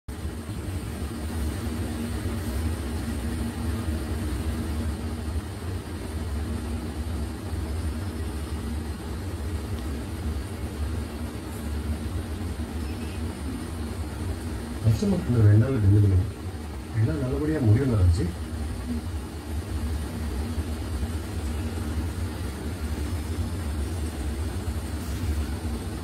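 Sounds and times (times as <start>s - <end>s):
faint high whine: 0.1s - 26.0s
low hum: 0.1s - 26.0s
textile machinery drone: 0.1s - 26.0s.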